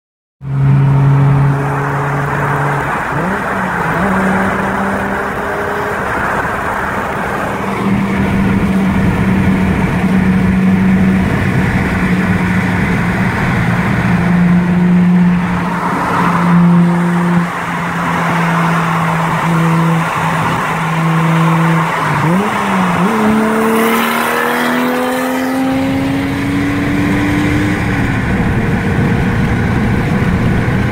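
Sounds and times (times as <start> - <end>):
turbo car engine revving: 0.4 - 30.9
tyre noise on wet road: 1.6 - 27.2.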